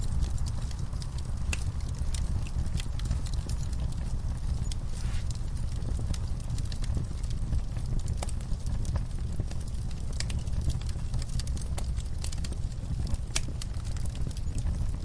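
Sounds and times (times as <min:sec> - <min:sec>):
low rumble of flames: 0:00.0 - 0:15.0
wood fire pops and snaps: 0:00.0 - 0:15.0.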